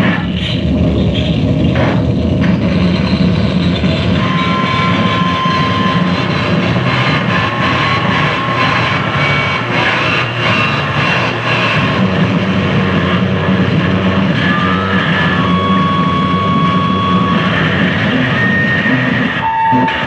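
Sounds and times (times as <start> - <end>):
distorted electronic noise: 0.0 - 20.0
high held tones: 3.2 - 20.0.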